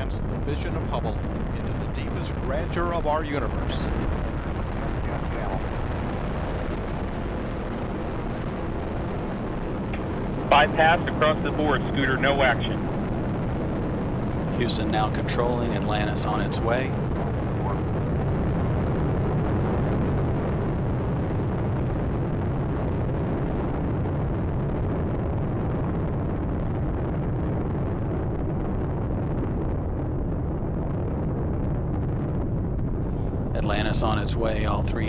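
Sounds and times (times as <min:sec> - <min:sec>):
deep rocket engine rumble: 0:00.0 - 0:35.0.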